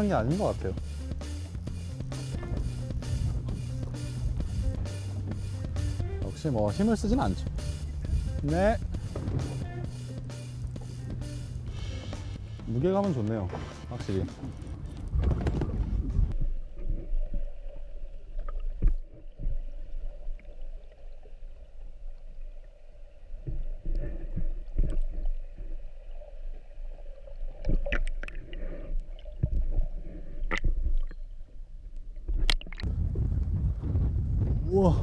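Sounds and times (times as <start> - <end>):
wind and water noise: 0.0 - 35.0
muffled boat engine hum underwater: 0.6 - 12.6, 13.5 - 34.6.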